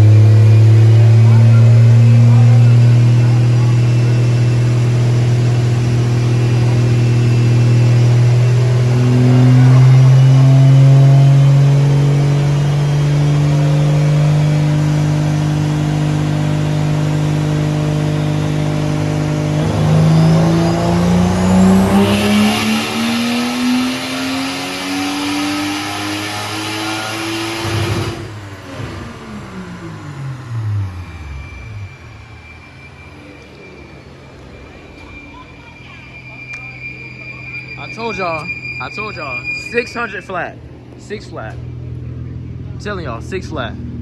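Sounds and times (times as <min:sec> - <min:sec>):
car engine revving on dynamometer: 0:00.0 - 0:44.0.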